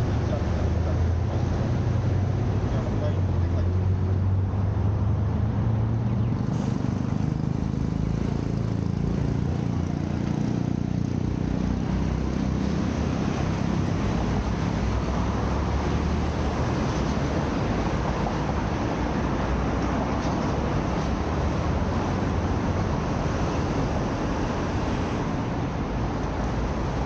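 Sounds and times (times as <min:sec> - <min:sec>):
rushing of passing traffic: 0:00.0 - 0:27.0
vehicle engines rumbling: 0:00.0 - 0:27.0.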